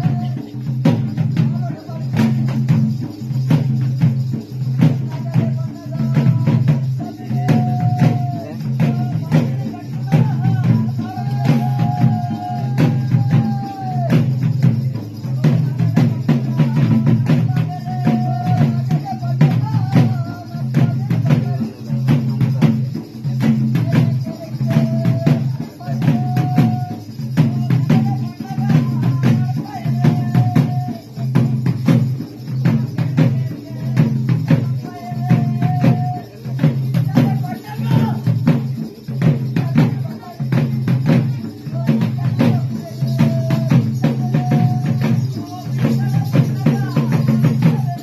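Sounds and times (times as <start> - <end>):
drums beating: 0.0 - 48.0.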